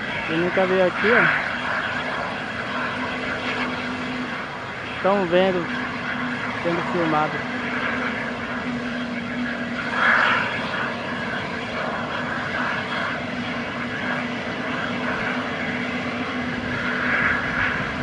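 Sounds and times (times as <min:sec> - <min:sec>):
jet engines idling: 0:00.0 - 0:18.0.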